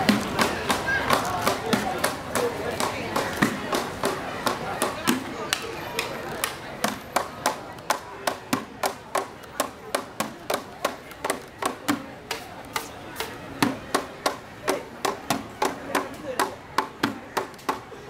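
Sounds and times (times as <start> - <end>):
plastic buckets beaten as drums: 0.0 - 18.0.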